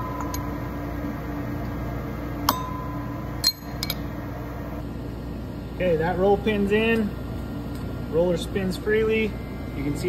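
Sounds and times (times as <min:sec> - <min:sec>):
heater hum: 0:00.0 - 0:10.0.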